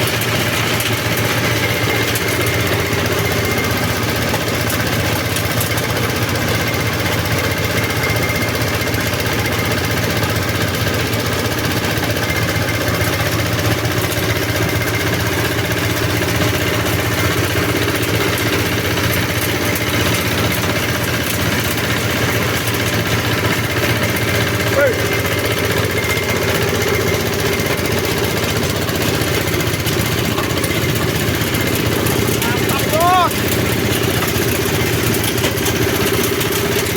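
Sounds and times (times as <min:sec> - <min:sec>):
chopper grinder machine droning: 0:00.0 - 0:36.9.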